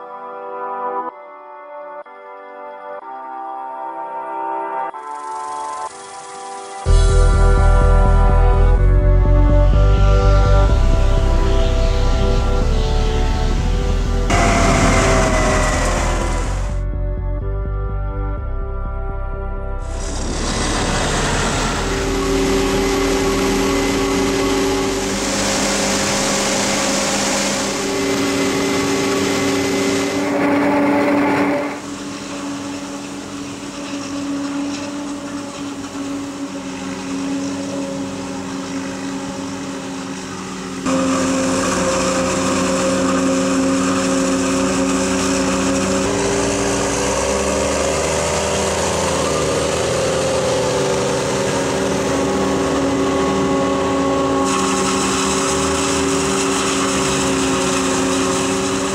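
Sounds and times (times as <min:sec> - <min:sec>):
heavy farm machinery running: 0:05.1 - 0:17.6, 0:19.8 - 0:58.9.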